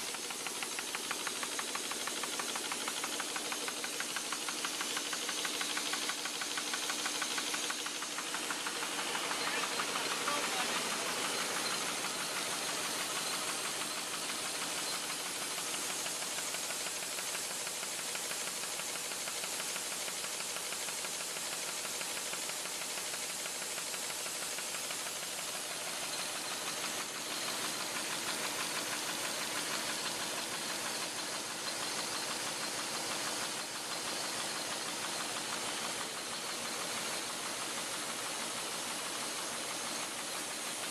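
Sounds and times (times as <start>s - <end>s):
machine clattering: 0.0s - 40.9s
steady machine hiss: 0.0s - 40.9s.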